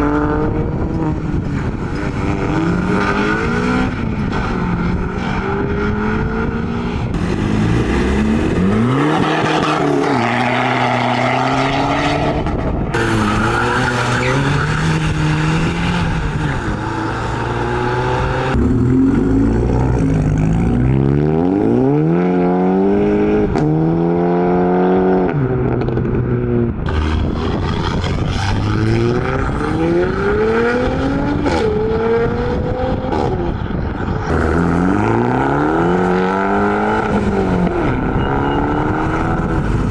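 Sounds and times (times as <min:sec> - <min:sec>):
car engines revving and accelerating: 0:00.0 - 0:39.9.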